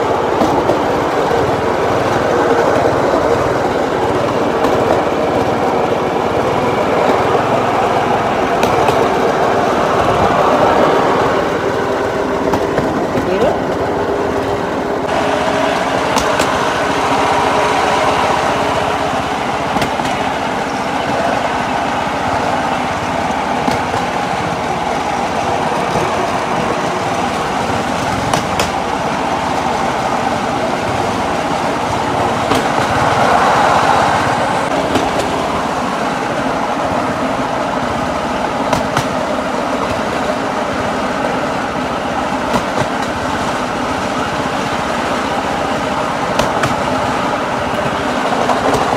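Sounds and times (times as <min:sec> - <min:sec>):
wheels rumbling on rails: 0:00.0 - 0:48.9.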